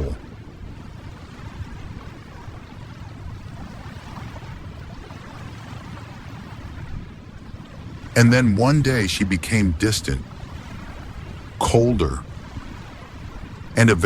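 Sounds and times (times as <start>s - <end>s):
ocean waves washing: 0.0s - 14.0s.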